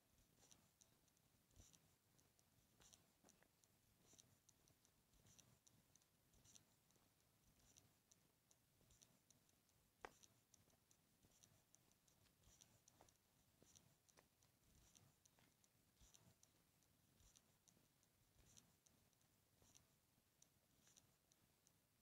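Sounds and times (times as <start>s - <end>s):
faint high ticks: 0.0s - 21.8s
click: 0.3s - 21.8s.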